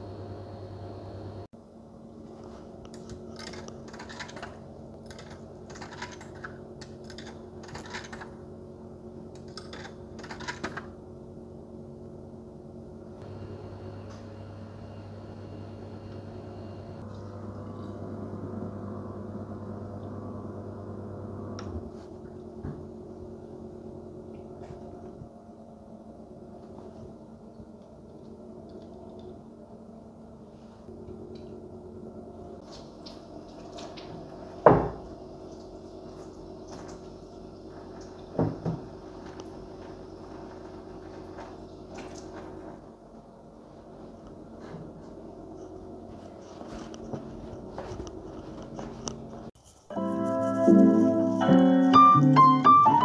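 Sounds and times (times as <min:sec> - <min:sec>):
vending machine dispensing hum: 0:00.0 - 0:01.5, 0:02.2 - 0:53.0
low machine hum: 0:00.0 - 0:53.0.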